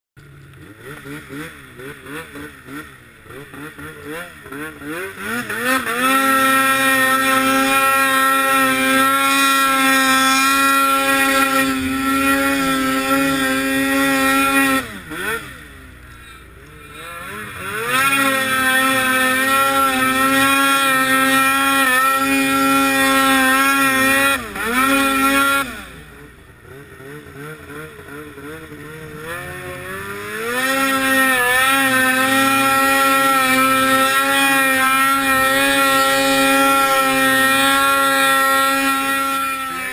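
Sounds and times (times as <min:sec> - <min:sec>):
snowmobile engine revving: 0:00.2 - 0:39.9.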